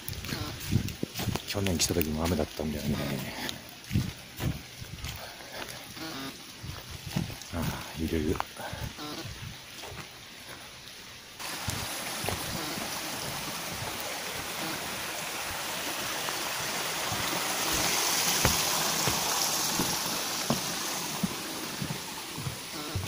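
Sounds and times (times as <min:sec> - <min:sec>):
footsteps on wooden boards: 0:00.0 - 0:10.6, 0:11.4 - 0:23.0
rain on foliage and boardwalk: 0:00.0 - 0:23.0.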